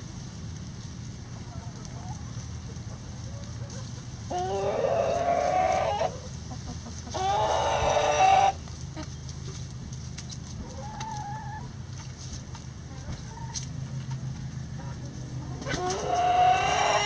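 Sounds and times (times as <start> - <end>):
chickens clucking: 0.1 - 17.0
chickens calling: 0.2 - 17.0.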